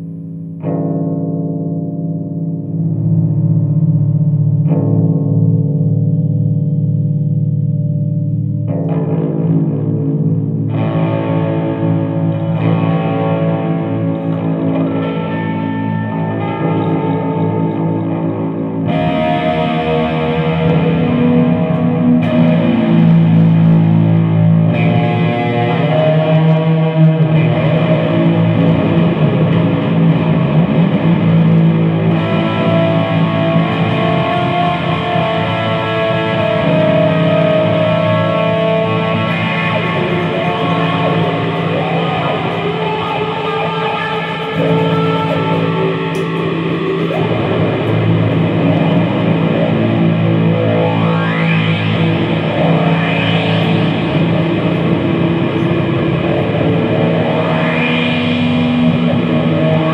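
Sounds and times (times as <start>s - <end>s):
distorted guitar music: 0.0s - 59.9s.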